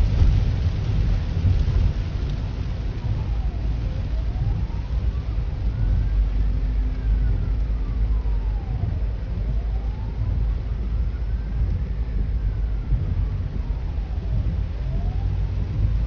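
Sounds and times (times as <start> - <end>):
loud low rumble: 0.0 - 16.0
ambulance siren wailing: 2.5 - 16.0.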